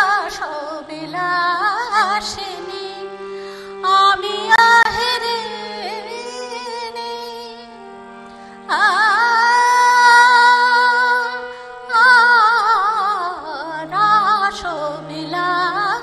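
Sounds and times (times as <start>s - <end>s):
woman singing with vibrato: 0.0s - 3.2s, 3.8s - 7.7s, 8.7s - 16.0s.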